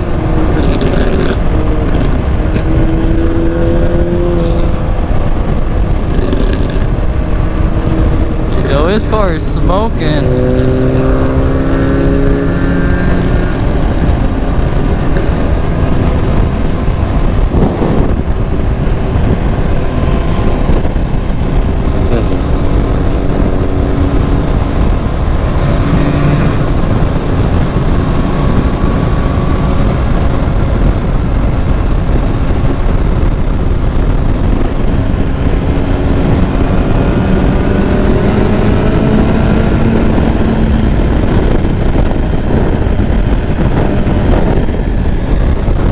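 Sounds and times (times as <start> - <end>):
motorcycle engine drone: 0.0 - 45.9
wind noise on microphone: 0.0 - 45.9.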